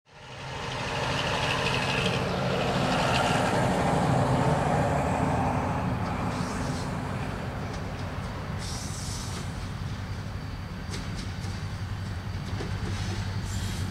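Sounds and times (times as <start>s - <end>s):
diesel locomotive engines: 0.1s - 13.9s.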